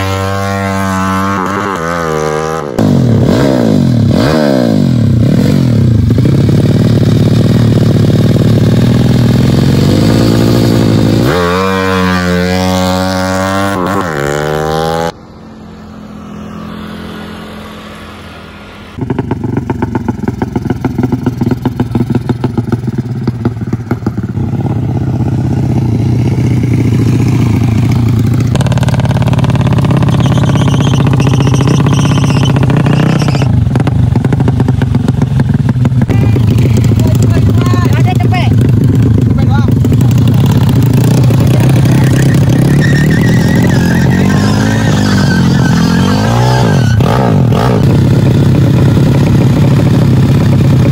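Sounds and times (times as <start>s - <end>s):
motorcycle engines revving: 0.0s - 50.9s.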